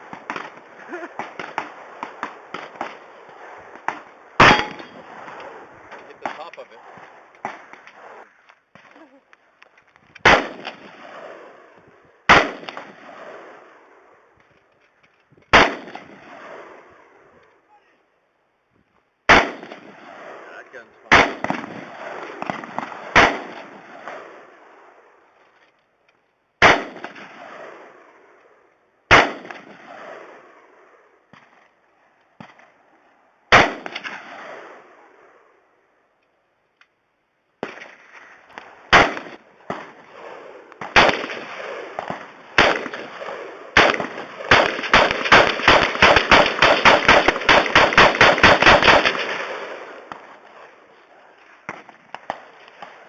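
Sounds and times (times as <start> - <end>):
gunshots with reverberation: 0.0 - 8.9, 10.2 - 14.2, 15.5 - 17.2, 19.3 - 25.2, 26.6 - 31.6, 33.5 - 35.6, 37.6 - 53.0.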